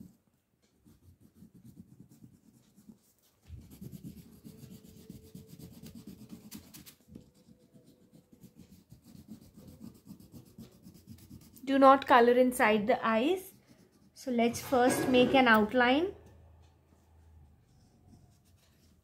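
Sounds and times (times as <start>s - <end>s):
crayon scratching on paper: 0.0s - 15.6s, 17.6s - 19.0s.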